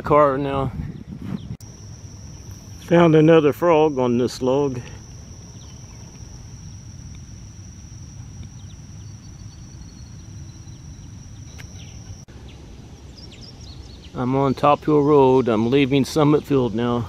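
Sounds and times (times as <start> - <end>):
insects trilling: 1.6 - 17.0.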